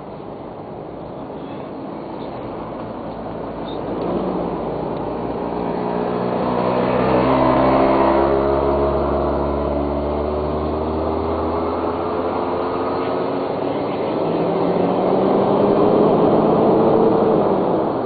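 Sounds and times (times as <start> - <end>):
engine speeding up: 2.6 - 18.0.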